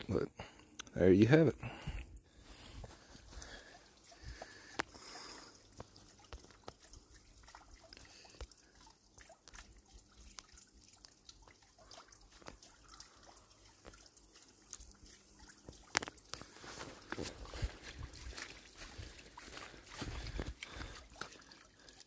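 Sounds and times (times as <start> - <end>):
water trickling from tubing: 0.0 - 22.0
water drips and splashes: 0.1 - 22.0.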